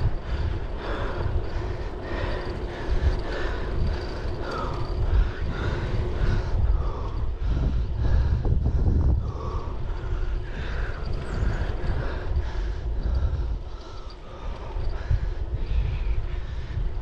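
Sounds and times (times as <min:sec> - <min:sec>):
rolling road noise: 0:00.0 - 0:17.0
wind buffeting microphone: 0:00.0 - 0:17.0.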